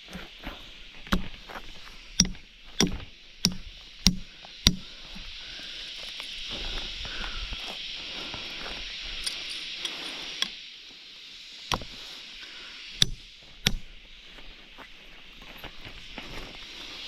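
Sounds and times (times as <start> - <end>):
insects hissing: 0.0 - 17.0.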